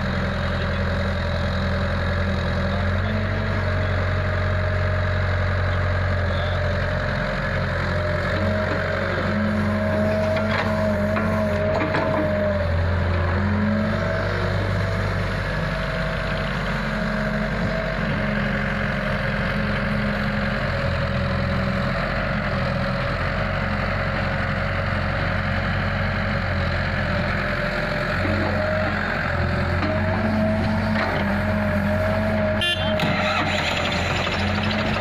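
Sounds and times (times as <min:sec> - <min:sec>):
excavator diesel engine: 0:00.0 - 0:35.0
tractor idling: 0:00.0 - 0:35.0.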